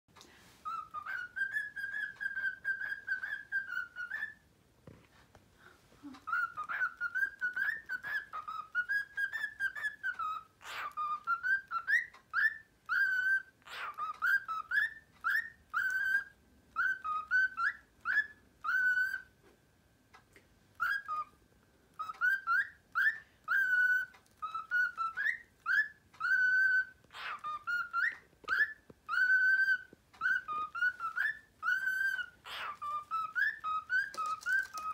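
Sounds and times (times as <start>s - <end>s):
cockatiel whistling: 0.6s - 4.4s, 6.0s - 19.4s, 20.7s - 34.9s.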